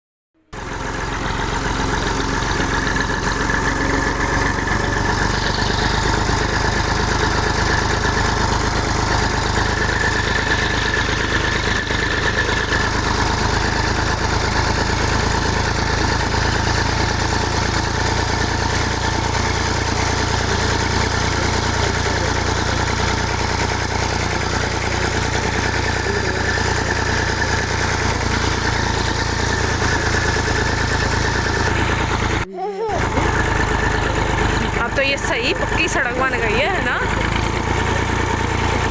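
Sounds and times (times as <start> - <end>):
tractor engine running: 0.5 - 38.9.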